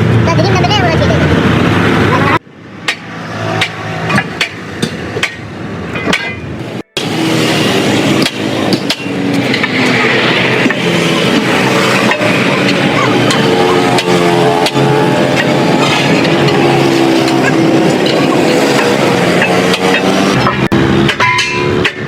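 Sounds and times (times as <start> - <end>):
steady background noise: 0.0 - 22.0
hammer blows: 2.8 - 22.0.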